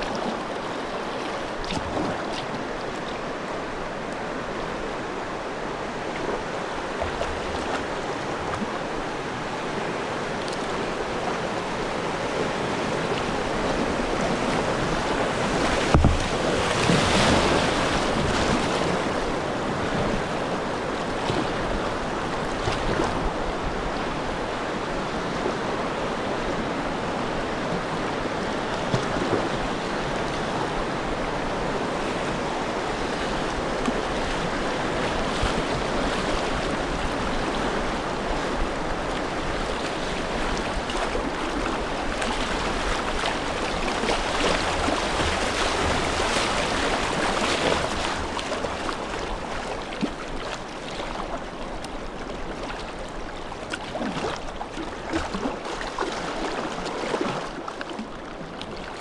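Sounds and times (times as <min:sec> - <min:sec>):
river rapids rushing: 0:00.0 - 0:52.6
water splashes: 0:00.0 - 0:59.0.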